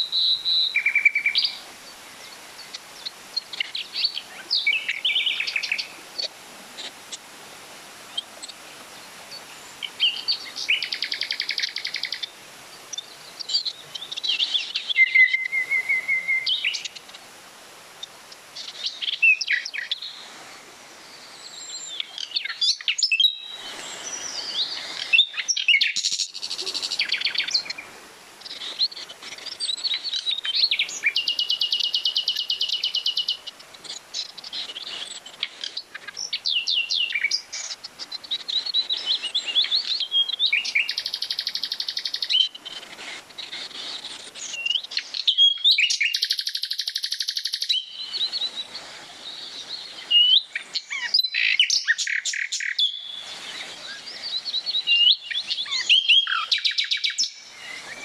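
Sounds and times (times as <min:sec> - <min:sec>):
songbirds chirping and whistling: 0:00.0 - 0:07.3, 0:08.1 - 0:17.3, 0:17.9 - 0:58.0.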